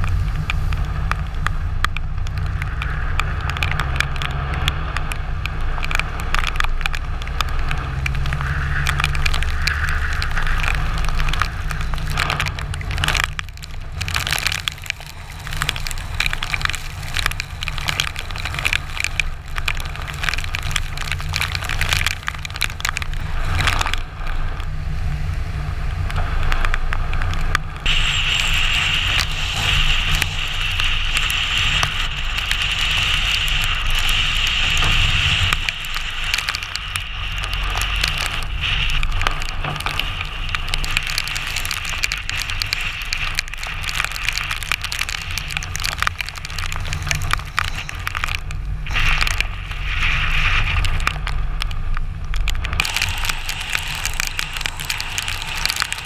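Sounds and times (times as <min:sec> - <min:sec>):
heavy rain: 0:00.0 - 0:56.0
low rumble: 0:00.0 - 0:56.0.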